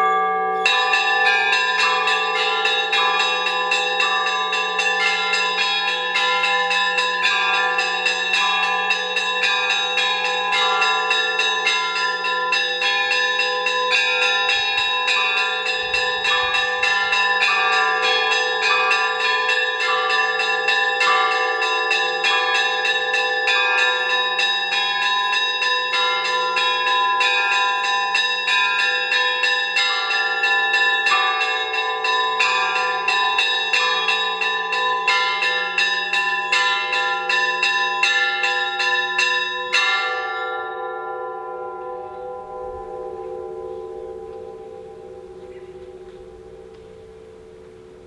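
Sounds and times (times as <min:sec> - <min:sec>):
church bells ringing: 0:00.0 - 0:48.0.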